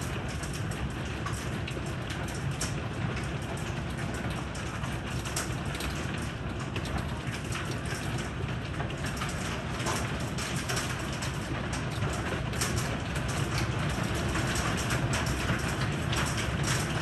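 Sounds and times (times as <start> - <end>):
heavy rain on wooden deck: 0.0 - 17.0
hailstones clicking on boards: 0.1 - 17.0.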